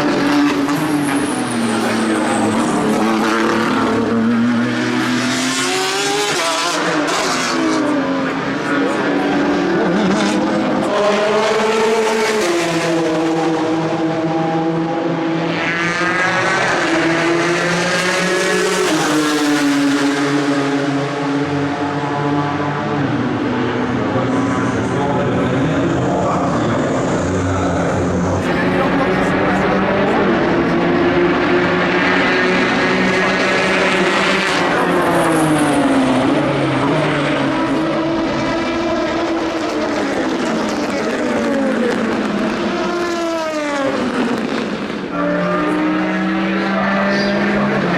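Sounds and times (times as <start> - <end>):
race car engine accelerating: 0.0 - 47.9.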